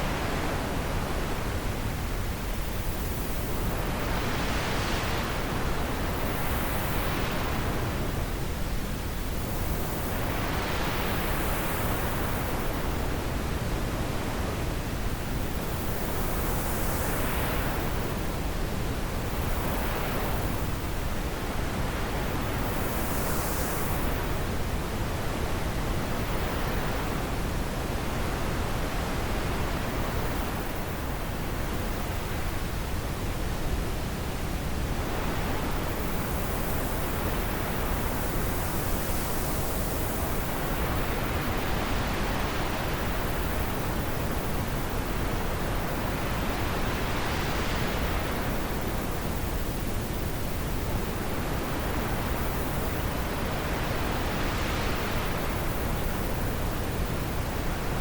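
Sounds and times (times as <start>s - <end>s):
wind blowing in gusts: 0.0s - 58.0s.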